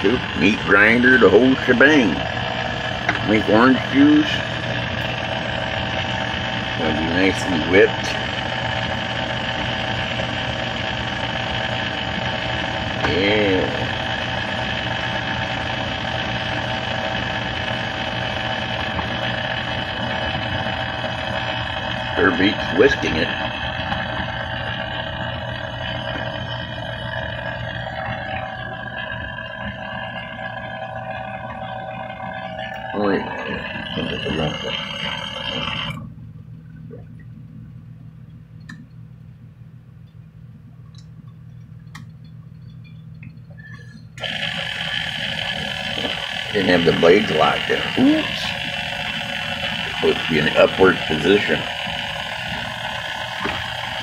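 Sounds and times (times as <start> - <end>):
stand mixer motor humming: 0.0 - 36.1, 43.9 - 54.0.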